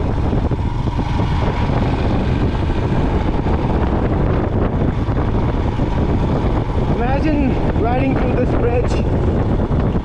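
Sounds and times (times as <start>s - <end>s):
motorcycle engine running: 0.0s - 10.0s
wind rumble on microphone: 0.0s - 10.0s.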